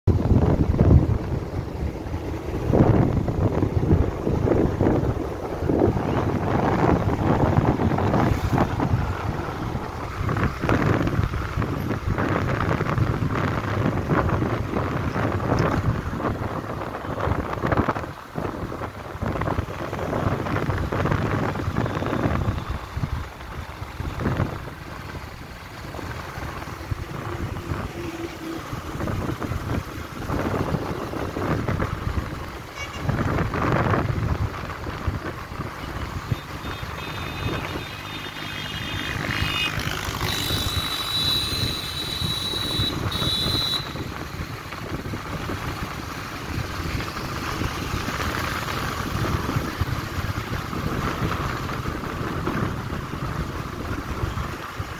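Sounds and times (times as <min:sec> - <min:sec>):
engine and tyre rumble: 0:00.0 - 0:54.9.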